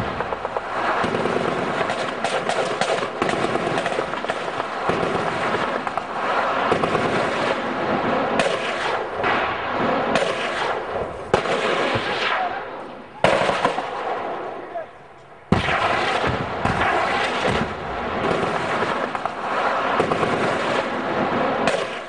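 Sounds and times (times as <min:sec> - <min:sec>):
sustained gunfire: 0:00.0 - 0:14.9, 0:15.5 - 0:22.0.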